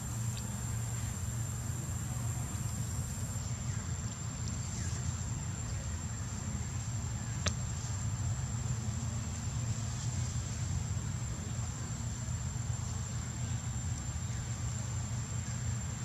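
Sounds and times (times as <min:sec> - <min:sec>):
thin high steady whine: 0:00.0 - 0:16.0.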